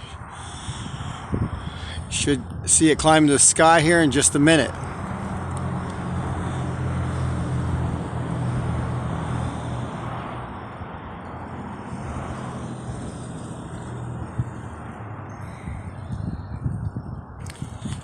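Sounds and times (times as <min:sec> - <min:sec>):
road noise: 0:00.0 - 0:18.0
vehicle engine humming: 0:00.0 - 0:18.0.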